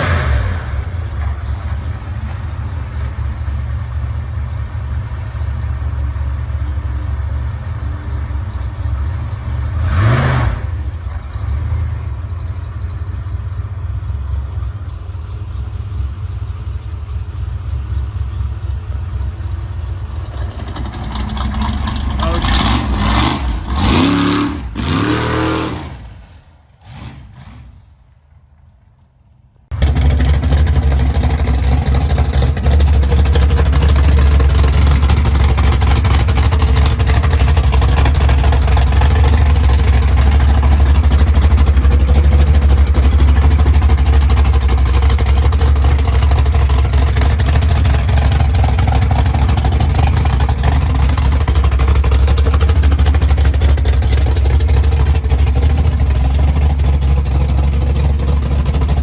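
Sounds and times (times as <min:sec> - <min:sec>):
hot rod engine winding down: 0:00.0 - 0:28.1, 0:29.7 - 0:59.0
deep steady engine rumble: 0:00.0 - 0:59.0.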